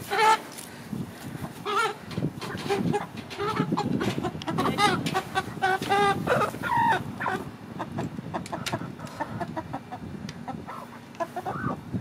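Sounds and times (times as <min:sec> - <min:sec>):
hens clucking: 0:00.0 - 0:11.9.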